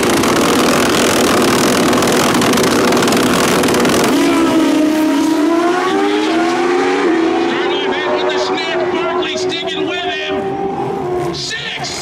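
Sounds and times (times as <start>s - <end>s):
motorcycles revving and accelerating: 0.0s - 12.0s.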